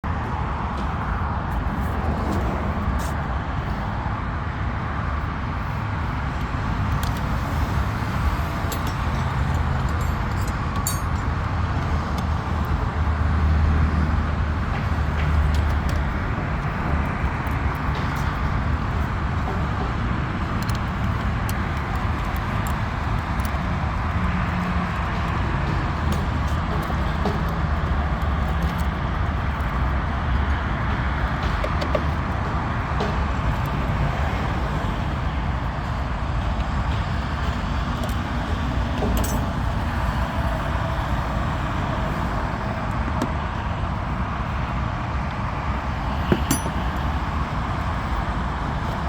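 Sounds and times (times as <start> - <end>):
vehicle low rumble: 0.0 - 49.0.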